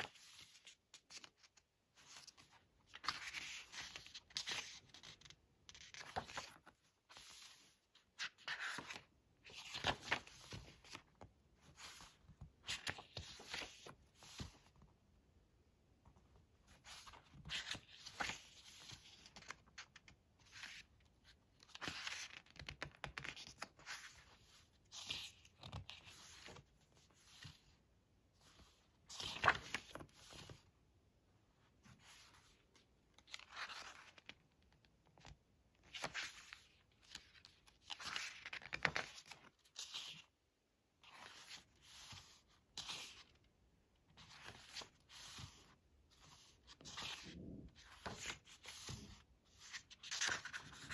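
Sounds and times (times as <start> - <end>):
book pages turning: 0.0 - 14.9, 16.0 - 27.8, 28.4 - 30.7, 31.8 - 40.3, 41.0 - 43.4, 44.0 - 50.9.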